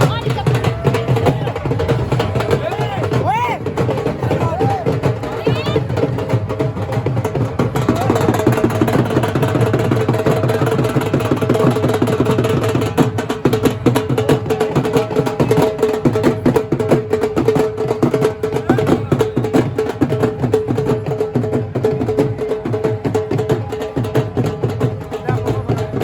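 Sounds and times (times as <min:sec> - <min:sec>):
drums beaten fast: 0:00.0 - 0:26.0.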